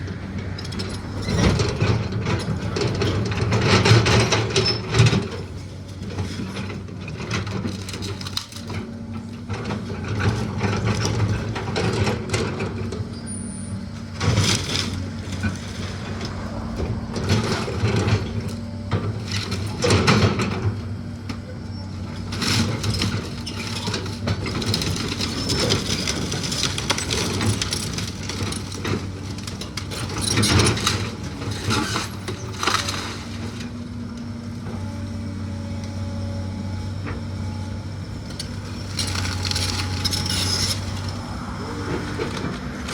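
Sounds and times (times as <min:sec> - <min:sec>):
heavy machine engine running: 0:00.0 - 0:42.9.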